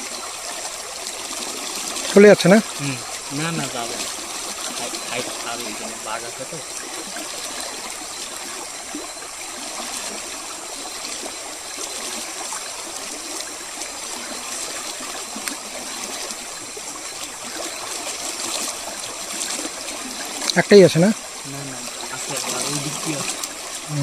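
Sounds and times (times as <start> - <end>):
running water trickling: 0.0 - 24.0.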